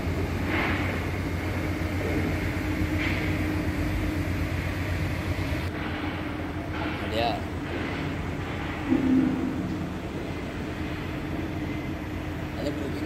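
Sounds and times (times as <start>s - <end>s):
constant low hum: 0.0s - 13.0s
mechanical rumble: 0.0s - 13.0s.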